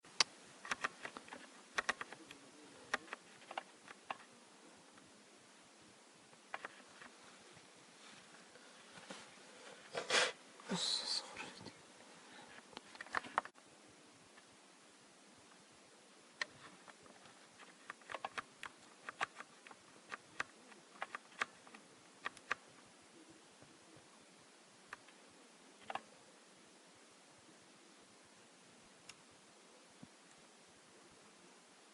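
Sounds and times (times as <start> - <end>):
faint steady hiss: 0.0 - 31.9.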